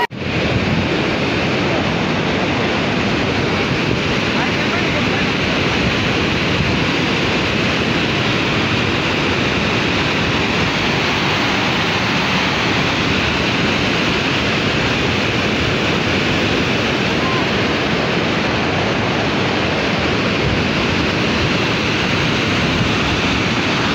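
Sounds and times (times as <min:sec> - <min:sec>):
river floodwater rushing: 0:00.0 - 0:23.9.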